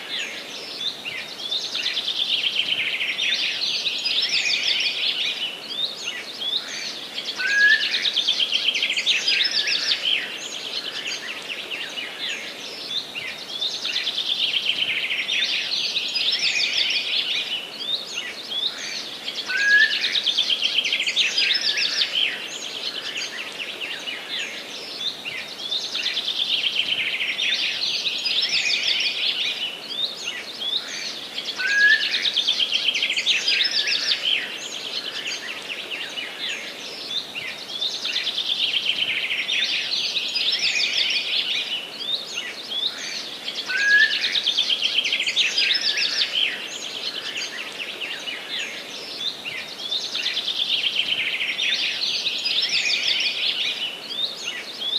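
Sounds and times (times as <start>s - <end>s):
faint background hiss: 0.0s - 54.9s
songbird trilling song: 0.2s - 54.9s.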